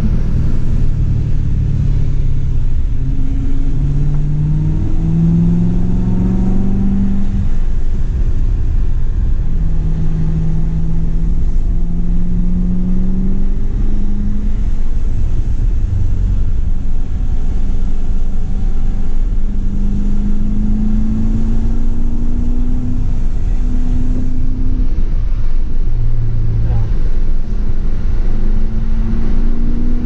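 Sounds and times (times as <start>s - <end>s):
car engine pulling: 0.0s - 30.0s.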